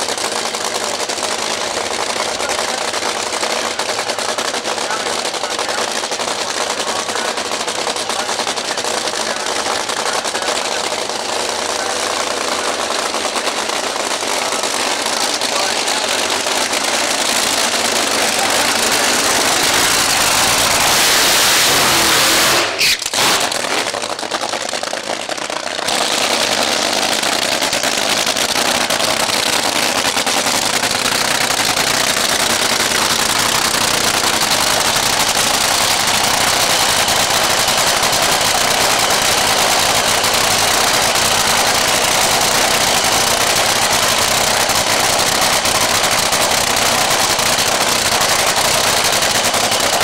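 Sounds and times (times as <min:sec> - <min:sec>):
dragster engine running: 0:00.0 - 0:50.0.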